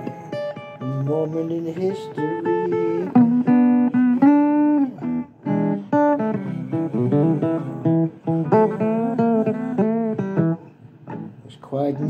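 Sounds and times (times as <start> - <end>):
blues guitar plucking: 0.0 - 12.0.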